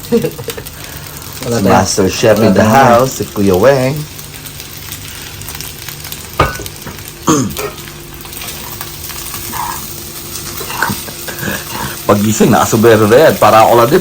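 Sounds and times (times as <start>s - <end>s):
rice sizzling in a pan: 0.0s - 14.0s.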